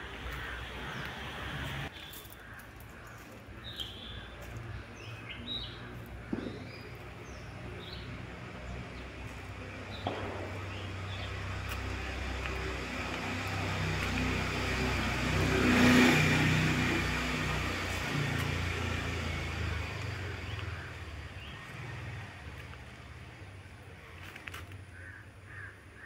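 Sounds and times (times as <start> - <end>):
passing motor vehicle rumble: 0.0 - 25.4
birds chirping: 0.0 - 26.0.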